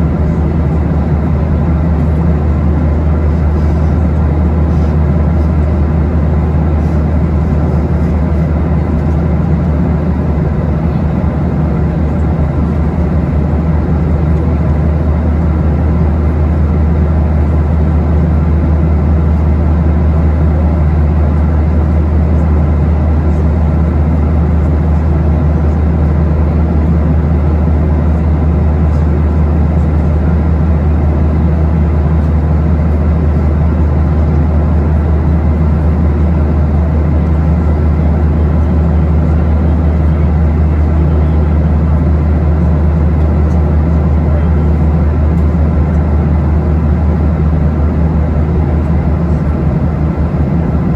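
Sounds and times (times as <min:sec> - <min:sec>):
airplane cabin engine drone: 0:00.0 - 0:50.9
low hum: 0:00.0 - 0:50.9.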